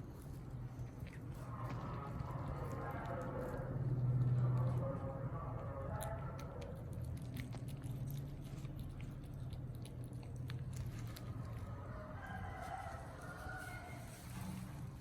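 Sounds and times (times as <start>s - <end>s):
kittens chewing and lapping: 0.0s - 15.0s.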